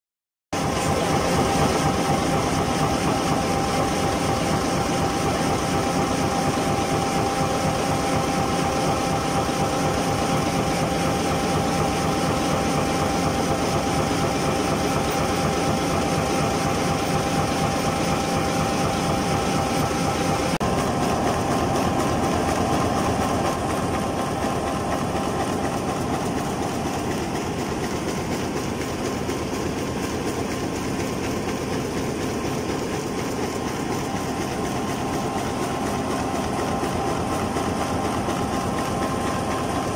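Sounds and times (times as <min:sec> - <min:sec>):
machine whine: 0:00.6 - 0:39.9
printing machine clattering: 0:00.6 - 0:39.9.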